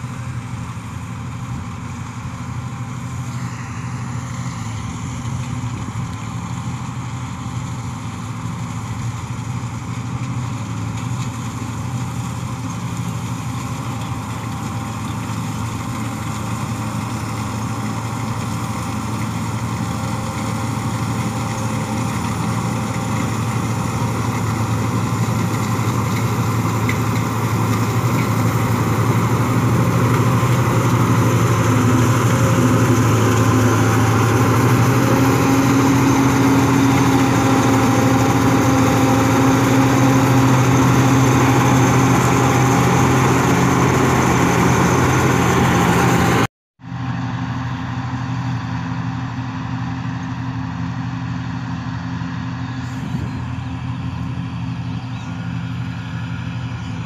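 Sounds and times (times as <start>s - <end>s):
combine harvester humming: 0.0s - 57.0s.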